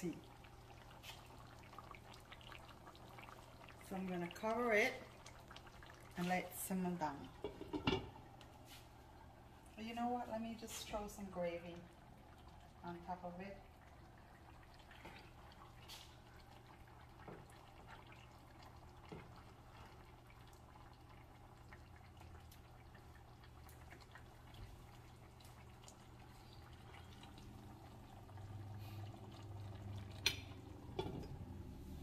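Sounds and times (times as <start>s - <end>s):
liquid dripping: 0.0s - 9.8s, 11.5s - 31.6s.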